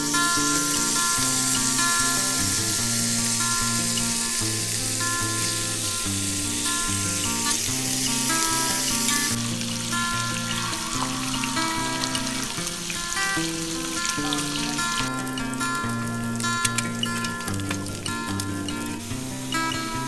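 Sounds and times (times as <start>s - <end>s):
background music: 0.0s - 20.0s
bacon sizzling on a grill pan: 0.0s - 20.0s.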